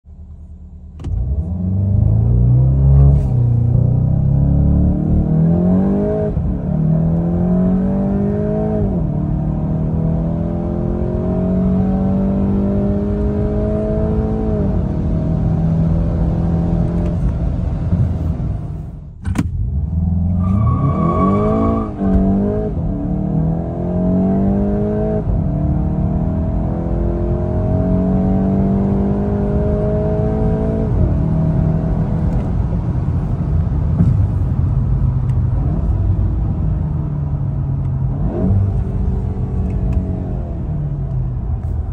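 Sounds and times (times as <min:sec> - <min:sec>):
car engine accelerating hard: 0:01.0 - 0:18.8, 0:19.5 - 0:41.9.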